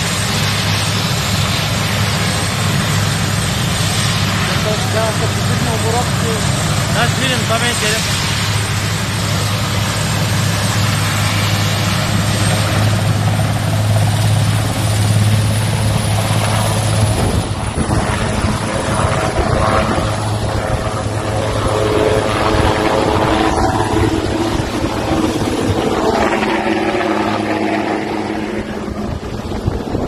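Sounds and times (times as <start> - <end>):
helicopter rotor throb: 0.0 - 30.0
high turbine whine: 0.0 - 30.0.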